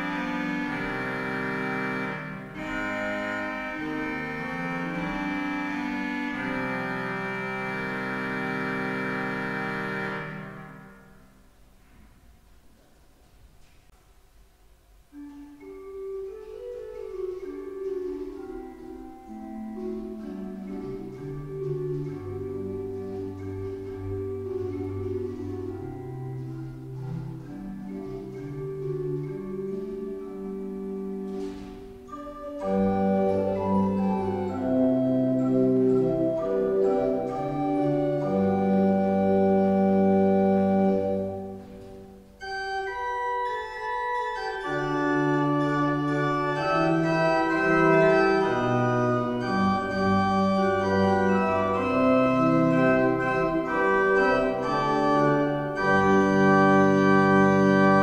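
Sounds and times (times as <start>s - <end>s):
pipe organ playing sustained chords: 0.0s - 11.8s, 15.0s - 58.0s.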